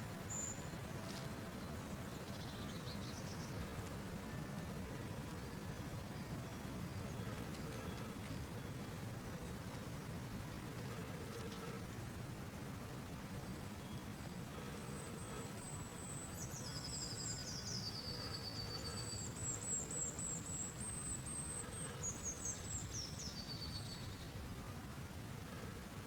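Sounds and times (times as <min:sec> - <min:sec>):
songbirds trilling: 0:00.0 - 0:25.9.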